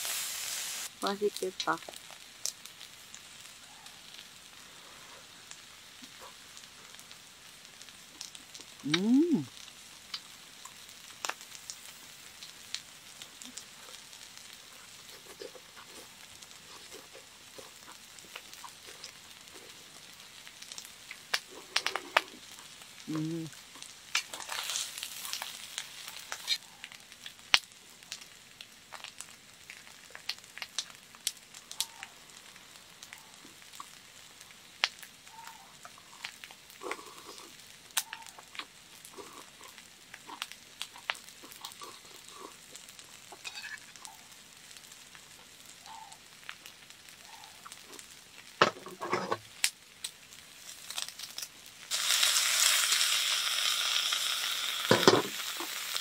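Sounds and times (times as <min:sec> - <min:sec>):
food sizzling on a griddle pan: 0:00.0 - 0:56.0.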